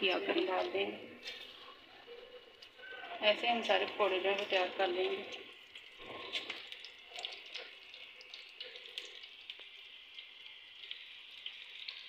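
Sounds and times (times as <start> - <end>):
batter deep-frying in hot oil: 0.0 - 12.0.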